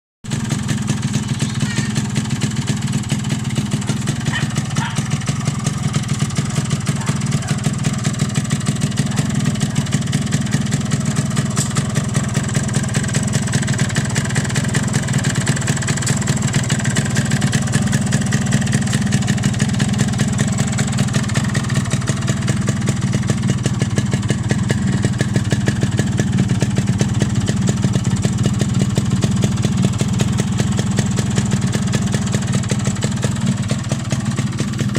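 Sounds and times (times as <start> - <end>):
two-stroke motorcycle engine idling: 0.3 - 34.9.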